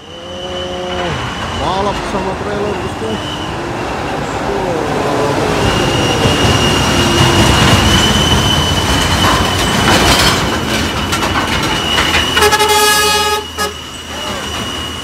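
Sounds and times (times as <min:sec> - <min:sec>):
high-pitched squeal: 0:00.0 - 0:15.0
road noise: 0:00.0 - 0:15.0.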